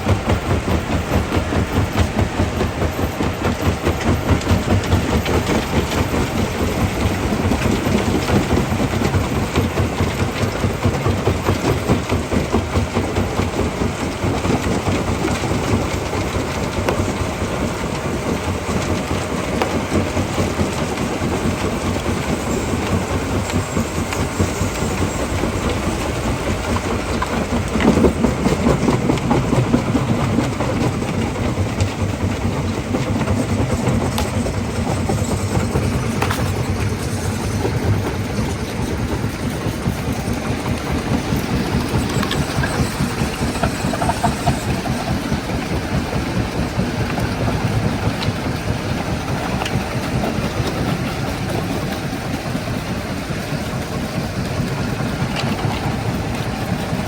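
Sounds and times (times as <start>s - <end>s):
machines running: 0.0s - 57.0s.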